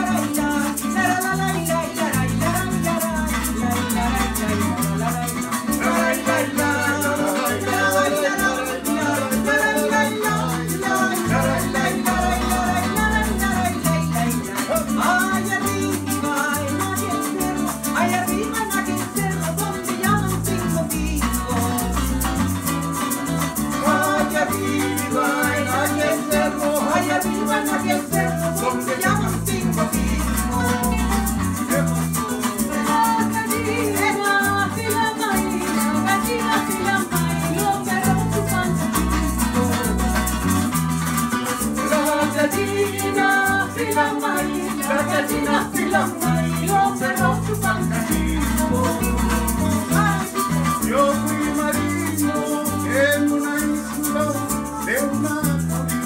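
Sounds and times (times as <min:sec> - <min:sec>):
acoustic guitars strumming: 0:00.0 - 0:56.0
shaker rhythm: 0:00.0 - 0:56.0
small string instrument: 0:00.0 - 0:56.0.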